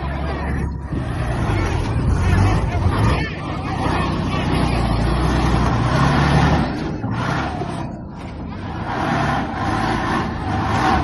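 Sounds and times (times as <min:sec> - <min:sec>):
heavy machinery engines rumbling: 0:00.0 - 0:11.0.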